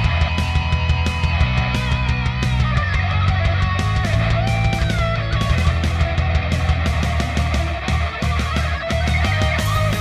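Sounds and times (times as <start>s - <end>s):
distorted electric guitar: 0.0s - 10.0s
programmed drums and bass: 0.0s - 10.0s.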